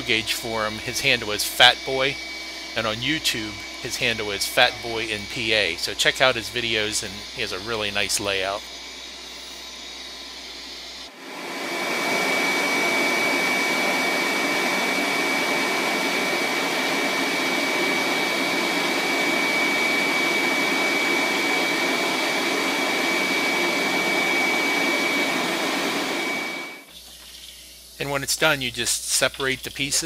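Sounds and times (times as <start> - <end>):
laser cutter high whine: 0.0 - 11.2, 11.9 - 30.0
rush of blowing air: 0.0 - 26.9.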